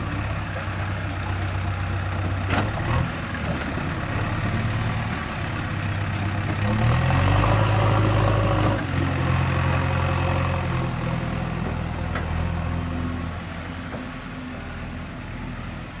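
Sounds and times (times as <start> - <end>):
diesel engine working under load: 0.0 - 16.0.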